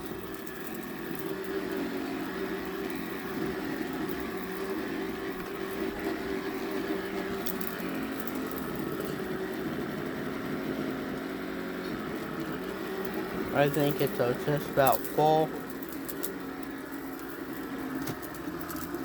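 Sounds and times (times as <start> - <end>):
floor cleaning machine motor hum: 0.0 - 19.0.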